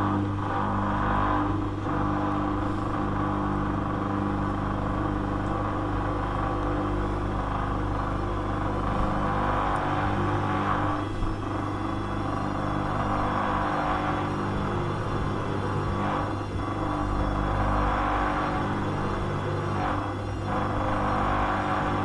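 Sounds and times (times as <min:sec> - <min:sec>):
constant machine tones: 0:00.0 - 0:22.0
washing machine motor humming: 0:00.0 - 0:22.0.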